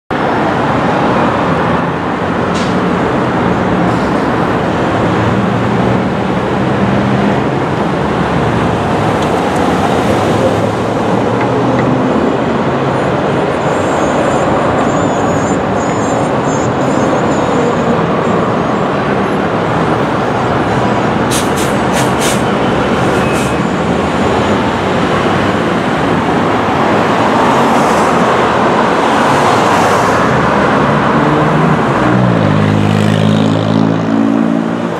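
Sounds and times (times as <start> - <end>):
cars and truck passing: 0.1 - 34.9.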